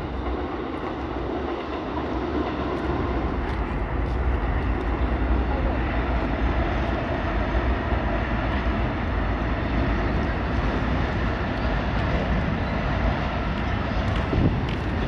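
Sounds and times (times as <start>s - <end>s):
subway train rumbling on bridge: 0.0s - 15.0s.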